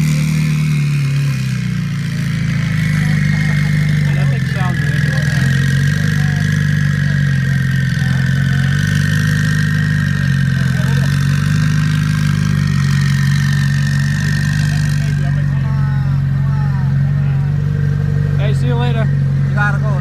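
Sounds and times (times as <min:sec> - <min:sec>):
car engine idling: 0:00.0 - 0:20.0
high turbo whine: 0:00.0 - 0:20.0.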